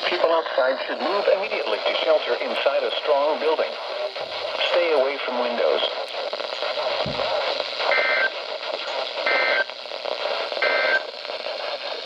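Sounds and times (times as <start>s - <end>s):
radio receiver static: 0.0s - 12.0s.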